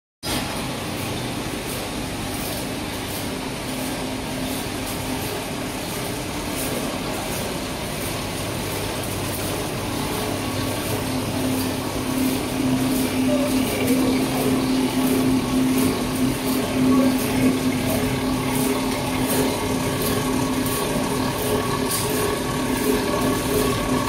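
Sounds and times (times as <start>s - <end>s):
machine humming: 0.3s - 24.0s.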